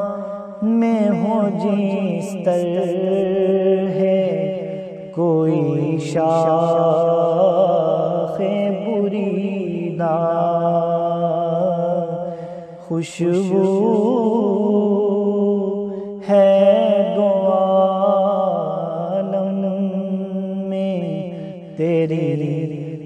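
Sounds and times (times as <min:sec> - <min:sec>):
man singing: 0:00.0 - 0:23.0.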